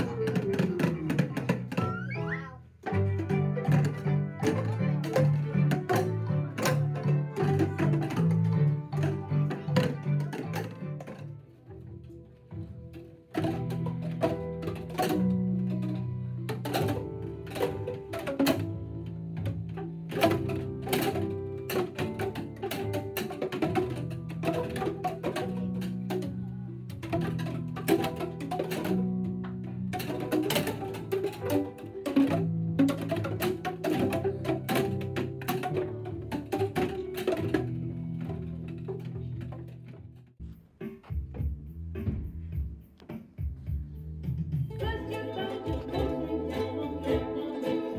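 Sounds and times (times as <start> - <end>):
children striking percussion tubes: 0.0 - 11.4, 13.3 - 39.7, 44.8 - 47.9
backing music with low notes: 0.0 - 47.9.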